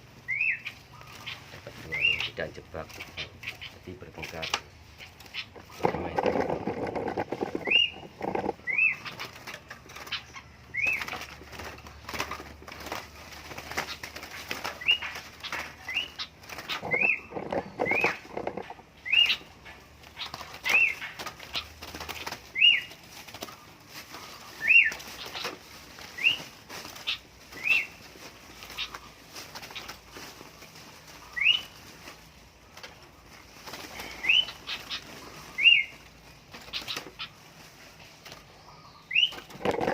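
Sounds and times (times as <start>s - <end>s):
birds chirping: 0.0s - 39.9s
wings flapping and rustling: 0.0s - 39.9s.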